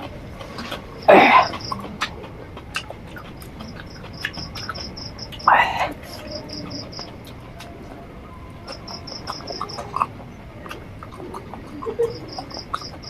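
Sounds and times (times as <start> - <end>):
person eating: 0.0 - 7.8, 8.6 - 13.0
cricket chirping: 0.0 - 13.0.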